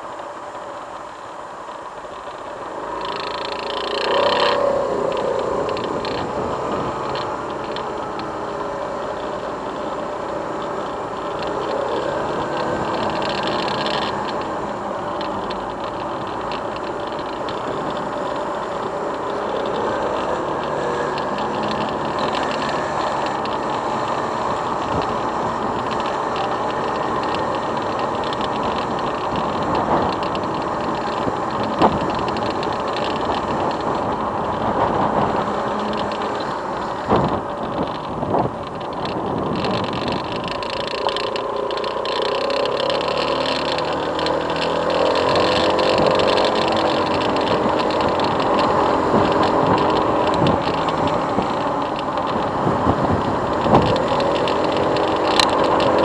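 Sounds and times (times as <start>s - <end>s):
motorcycle engine revving: 2.4s - 56.0s.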